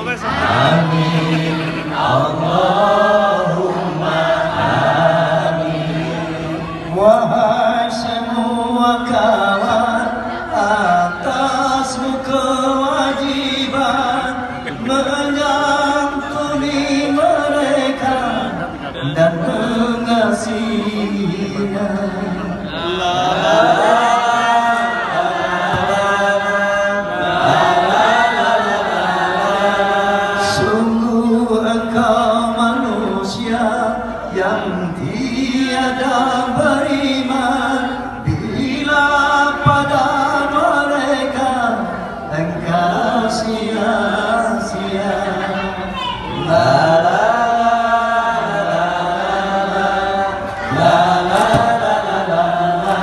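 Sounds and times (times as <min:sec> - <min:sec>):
man singing unaccompanied: 0:00.2 - 0:45.8, 0:46.4 - 0:53.0.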